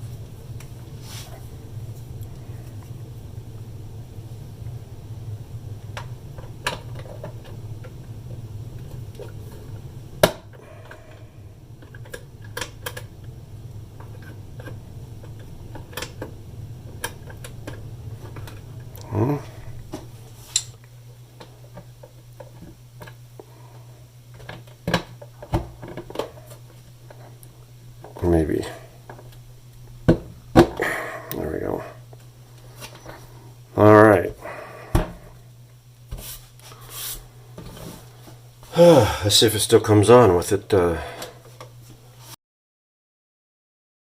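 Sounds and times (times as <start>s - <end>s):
low steady hum: 0.0s - 42.4s.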